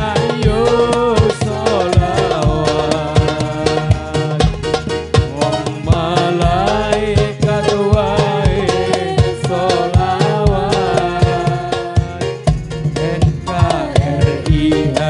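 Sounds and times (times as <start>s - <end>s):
frame drums: 0.0s - 15.0s
person singing melismatic melody: 0.0s - 15.0s.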